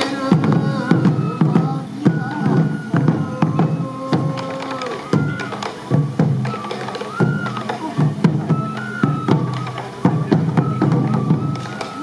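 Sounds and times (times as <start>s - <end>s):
bamboo flute melody: 0.0s - 12.0s
taiko drums beating: 0.0s - 12.0s.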